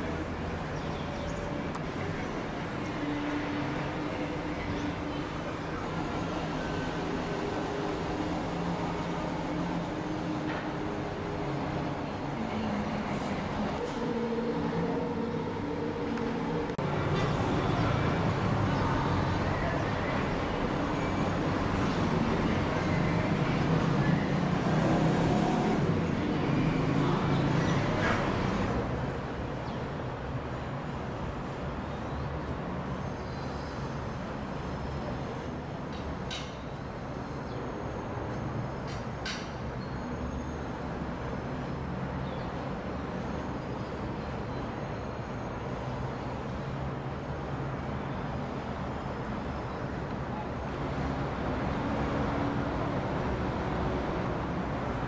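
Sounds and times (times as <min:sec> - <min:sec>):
road traffic hum: 0:00.0 - 0:55.0.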